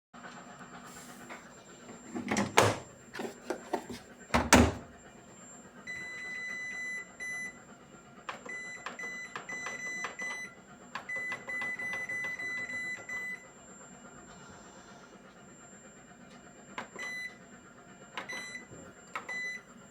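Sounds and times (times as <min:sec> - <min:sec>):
washing machine beeps: 0:00.9 - 0:03.0, 0:04.3 - 0:07.7, 0:08.3 - 0:15.0, 0:15.6 - 0:19.9.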